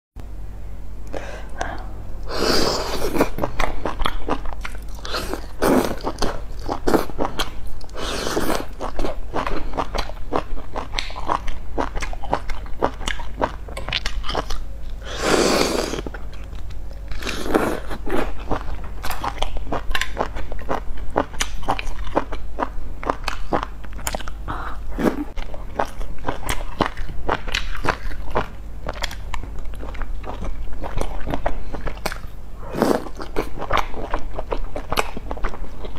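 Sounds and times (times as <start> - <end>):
wet chewing and smacking: 3.2 - 8.0, 8.6 - 15.0, 16.0 - 24.4, 25.3 - 32.4, 33.0 - 35.9.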